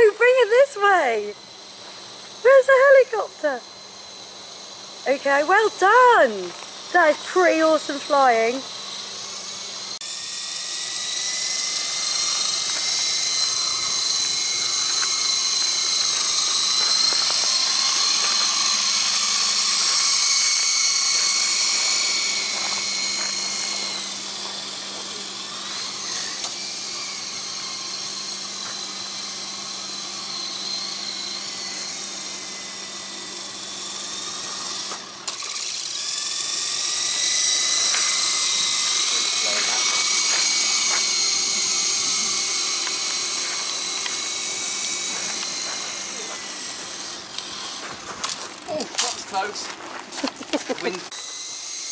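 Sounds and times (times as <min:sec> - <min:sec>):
toy helicopter rotors whining: 0:00.0 - 0:51.9.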